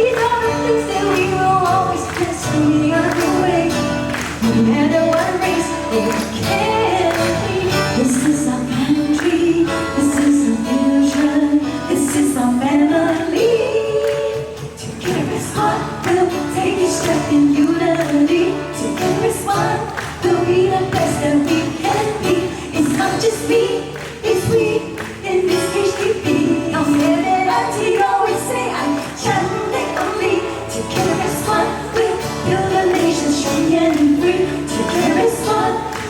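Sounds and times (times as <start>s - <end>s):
voices singing a melody: 0.0s - 36.0s.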